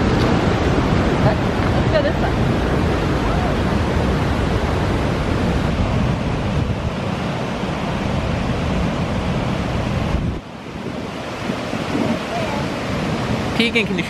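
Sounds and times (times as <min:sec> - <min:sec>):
waterfall rushing: 0:00.0 - 0:14.0
wind buffeting microphone: 0:00.0 - 0:14.0.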